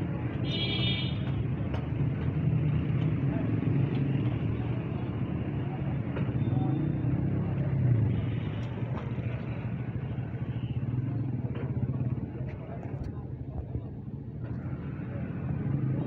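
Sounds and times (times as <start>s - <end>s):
low rumble of busy street: 0.0s - 16.0s.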